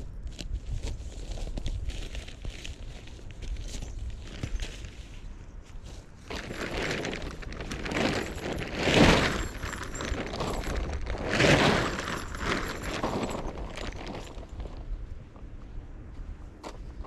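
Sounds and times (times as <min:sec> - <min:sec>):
tent fabric rustling and flapping: 0:01.0 - 0:14.9.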